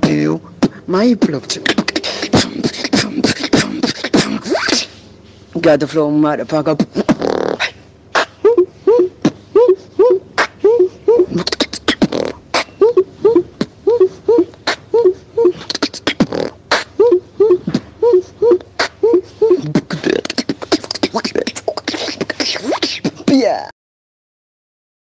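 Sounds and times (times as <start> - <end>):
beatboxing kick and snare: 0.0 - 5.0, 6.8 - 23.5
pitched vocal riff: 0.0 - 23.7.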